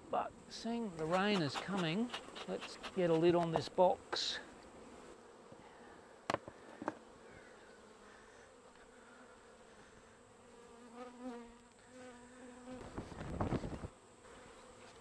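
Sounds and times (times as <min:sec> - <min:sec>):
bees buzzing: 0:00.4 - 0:15.0.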